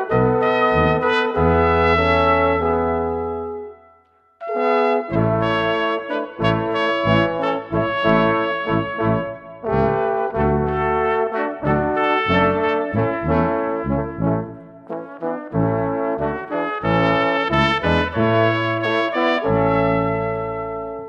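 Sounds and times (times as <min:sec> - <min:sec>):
brass ensemble playing a hymn: 0:00.0 - 0:03.7, 0:04.5 - 0:21.0.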